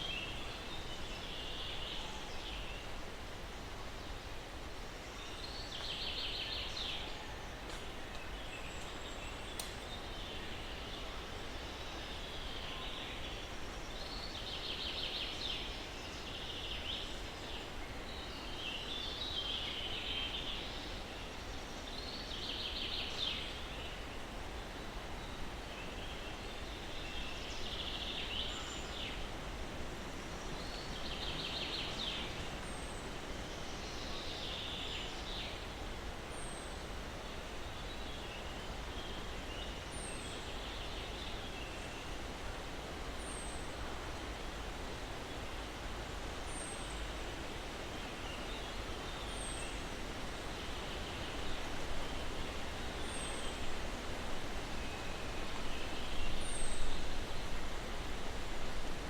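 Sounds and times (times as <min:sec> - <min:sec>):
breeze through pines: 0:00.0 - 0:59.0.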